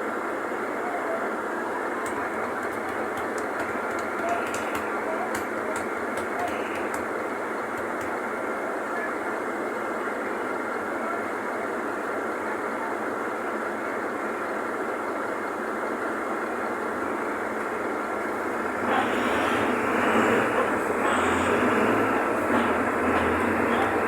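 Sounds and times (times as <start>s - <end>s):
faint steady whine: 0.0s - 24.0s
bus engine and road rumble: 0.1s - 14.1s, 15.6s - 24.0s.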